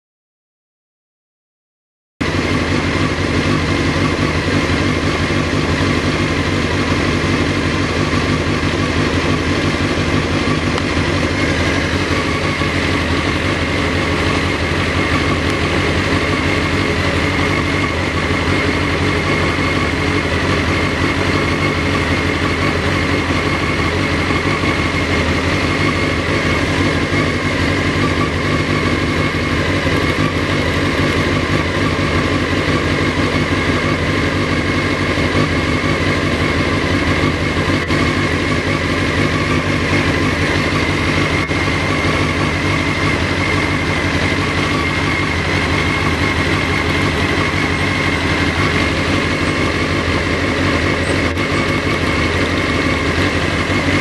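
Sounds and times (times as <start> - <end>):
motorcycle engine idling: 2.2 - 54.0.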